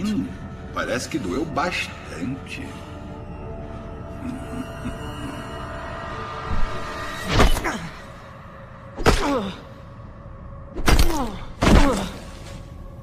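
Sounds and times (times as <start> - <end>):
quiet dark background music: 0.0 - 13.0.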